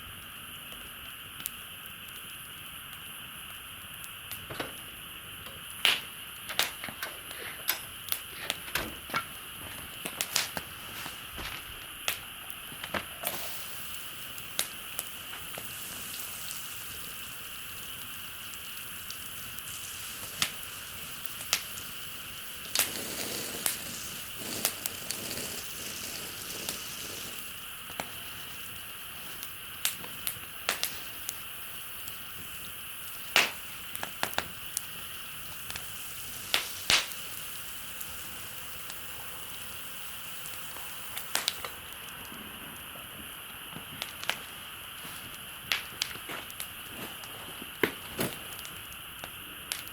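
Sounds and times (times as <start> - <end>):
steady high-pitched hiss: 0.0 - 49.9
campfire crackling and popping: 0.2 - 49.9.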